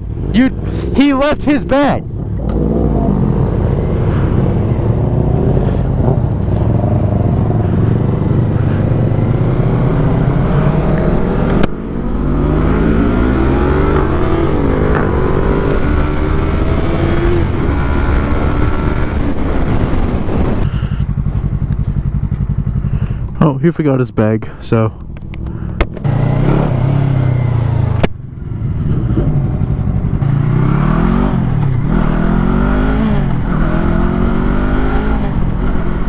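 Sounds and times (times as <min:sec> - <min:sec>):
motorcycle engines running: 0:00.0 - 0:36.0.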